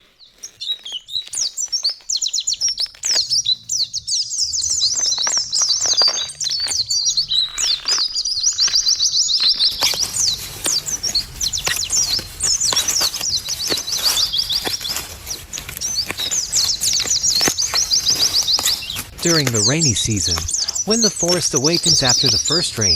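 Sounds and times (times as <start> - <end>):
songbirds chirping: 0.0 - 22.9.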